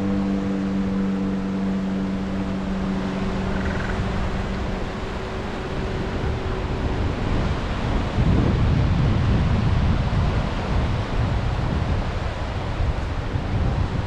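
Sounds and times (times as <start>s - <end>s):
sea waves on shore: 0.0s - 14.0s
wind buffeting microphone: 0.0s - 14.0s.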